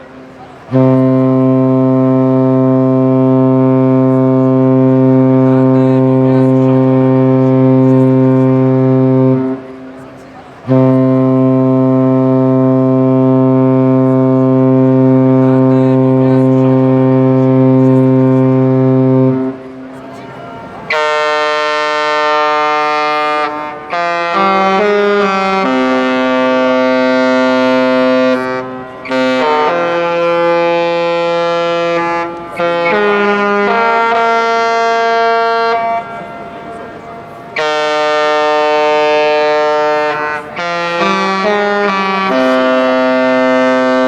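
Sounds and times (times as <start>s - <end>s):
ship horn playing a tune: 0.0s - 44.0s.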